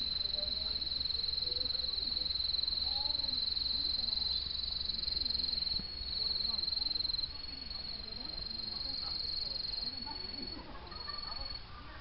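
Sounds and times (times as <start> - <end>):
crickets chirring: 0.0 - 11.6.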